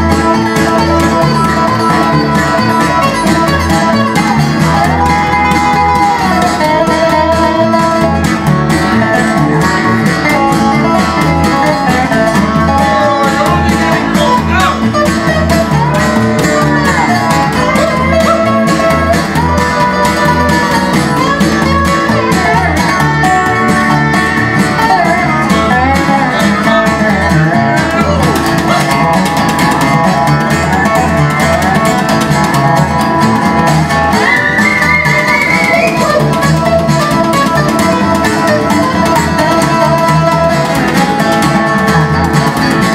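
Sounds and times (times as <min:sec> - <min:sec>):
plucked upright bass: 0:00.0 - 0:42.9
slide guitar solo: 0:00.0 - 0:42.9
strummed acoustic guitar: 0:00.0 - 0:42.9.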